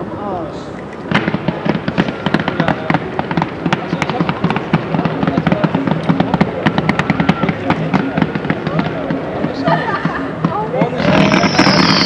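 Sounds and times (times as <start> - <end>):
fireworks crackling: 1.0 - 12.0.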